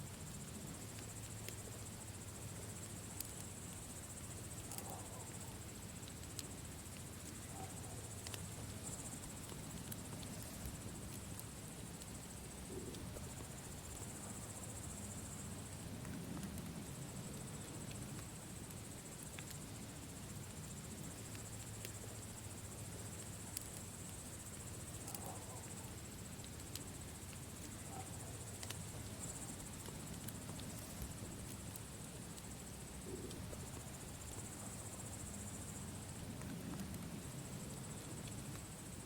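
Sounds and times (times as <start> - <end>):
campfire crackling: 0.0 - 39.0
crickets trilling: 0.0 - 39.0.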